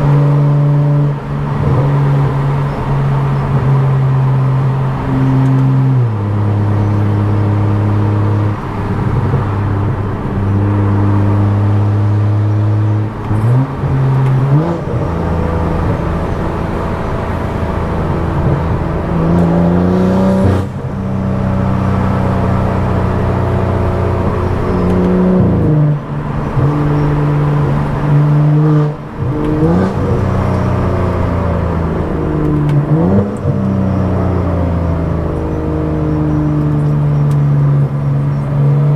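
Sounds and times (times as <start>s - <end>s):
car engine droning: 0.0s - 38.9s
engine revving on throttle: 0.0s - 38.9s.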